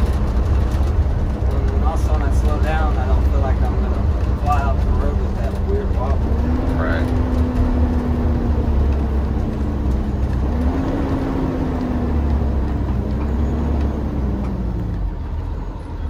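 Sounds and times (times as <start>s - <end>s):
bus diesel engine rumble: 0.0s - 16.0s
road noise: 0.0s - 16.0s.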